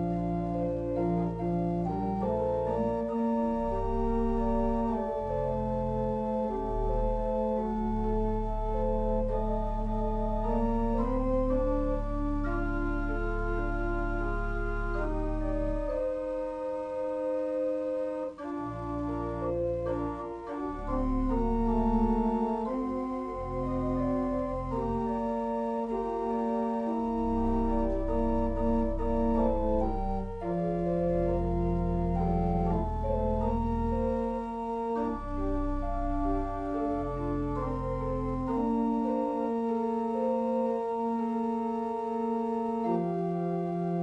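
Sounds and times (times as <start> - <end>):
organ playing a hymn: 0.0 - 44.0.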